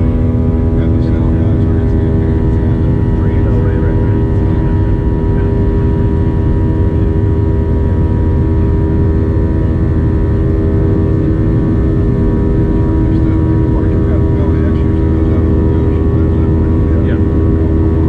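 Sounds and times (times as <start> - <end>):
engine whining tones: 0.0 - 18.0
jet engine drone in cabin: 0.0 - 18.0.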